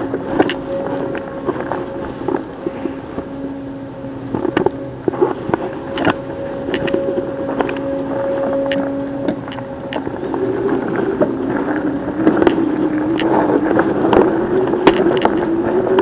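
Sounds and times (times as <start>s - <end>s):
motor drone rising in pitch: 0.0s - 16.0s.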